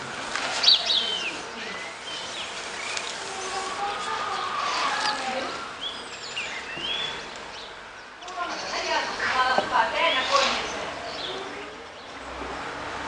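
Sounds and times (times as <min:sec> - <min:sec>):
birds chirping: 0:00.4 - 0:12.4.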